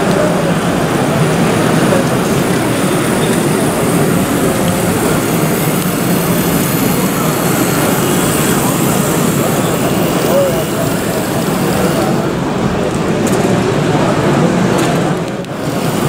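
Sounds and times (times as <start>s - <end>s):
busy exhibition hall din: 0.0s - 16.0s.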